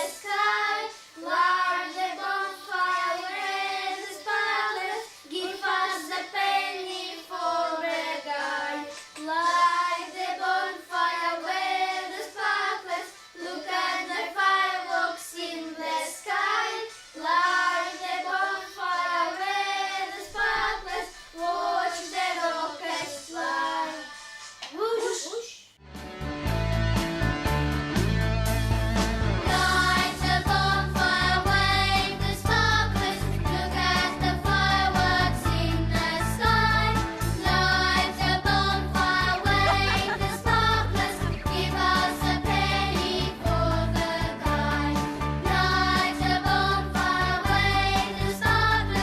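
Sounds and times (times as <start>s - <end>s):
children singing: 0.0s - 24.3s, 29.5s - 49.0s.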